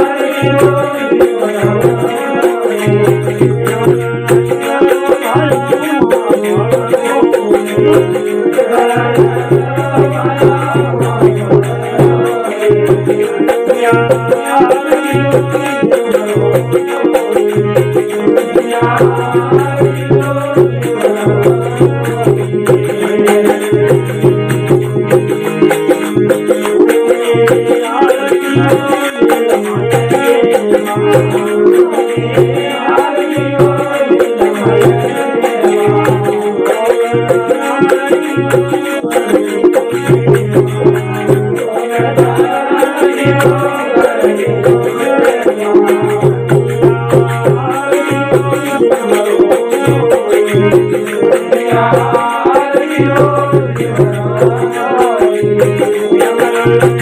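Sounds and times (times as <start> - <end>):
deep drum beat: 0.0 - 57.0
rattling percussion: 0.0 - 57.0.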